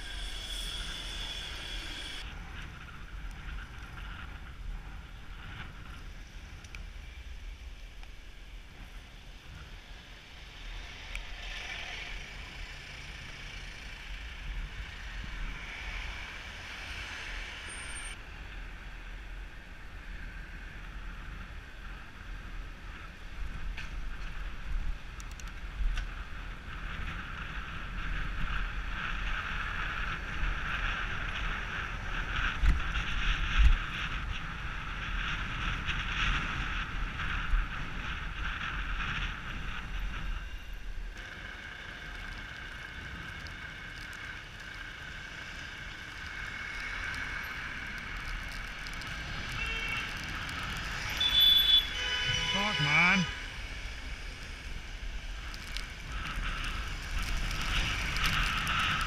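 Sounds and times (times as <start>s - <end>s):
passing vehicles: 0.0s - 59.0s
wind rumbling on microphone: 0.0s - 59.0s.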